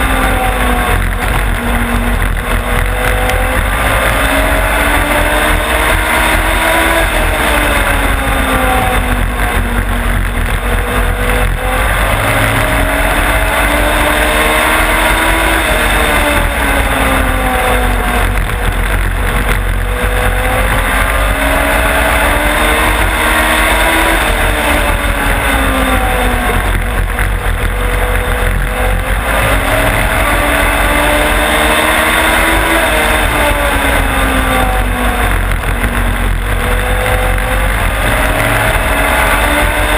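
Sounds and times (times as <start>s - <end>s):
race car engine at racing speed: 0.0s - 39.9s
wind and road noise: 0.0s - 39.9s.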